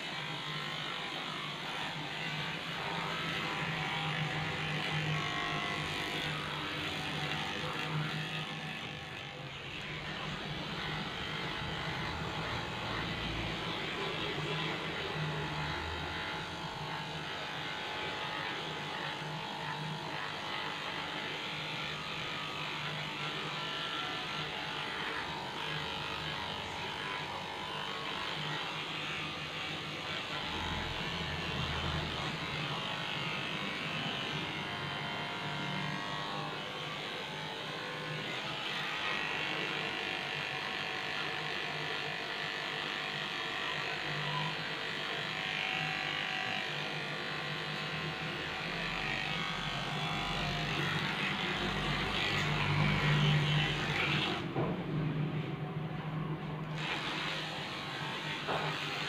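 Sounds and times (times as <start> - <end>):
electric clipper buzzing: 0.0 - 59.0.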